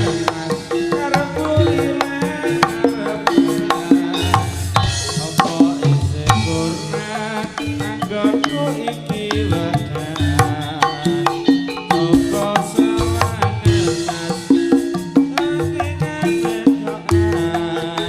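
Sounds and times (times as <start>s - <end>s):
drums and percussion beat: 0.0s - 18.0s
wavering melody line: 0.0s - 18.0s.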